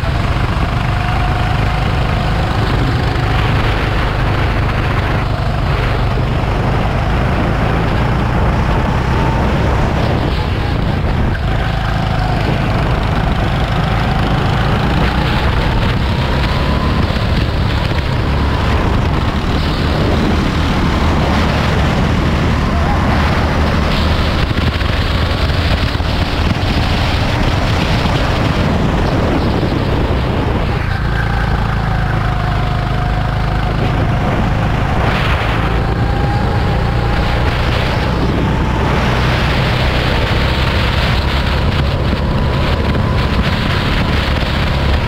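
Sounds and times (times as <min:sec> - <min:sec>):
go-kart engine running: 0:00.0 - 0:45.0.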